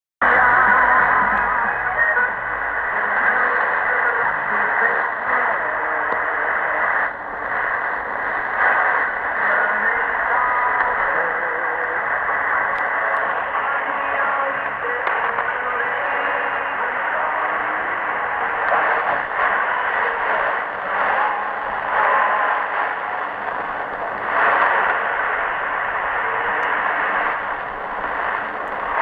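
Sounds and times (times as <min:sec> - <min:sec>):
music over shortwave radio: 0:00.2 - 0:29.0
radio static: 0:00.2 - 0:29.0.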